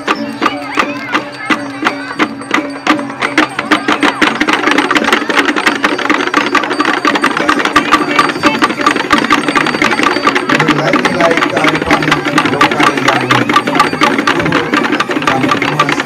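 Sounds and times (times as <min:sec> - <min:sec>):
gamelan clashing strokes: 0:00.0 - 0:16.0.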